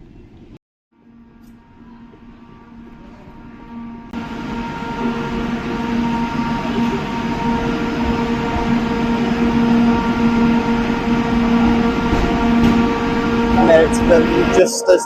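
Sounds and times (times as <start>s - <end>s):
electric train humming: 1.0s - 15.0s.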